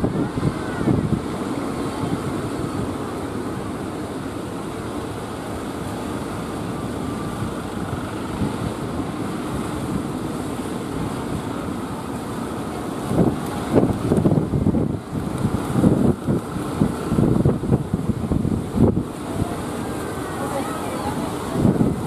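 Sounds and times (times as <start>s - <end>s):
boat engines droning: 0.0s - 22.0s
surf washing: 0.0s - 22.0s
wind on microphone: 0.0s - 22.0s.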